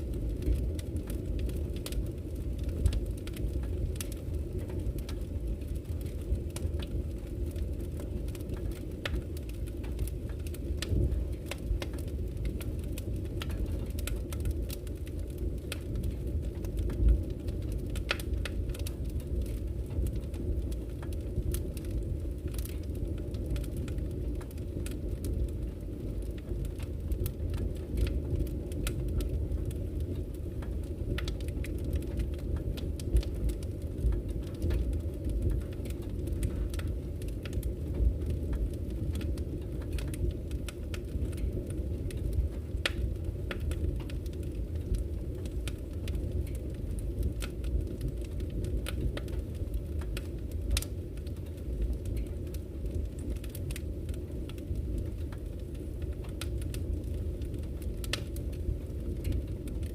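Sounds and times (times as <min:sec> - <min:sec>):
burning logs crackling and popping: 0:00.0 - 0:59.9
flames rumbling: 0:00.0 - 0:59.9.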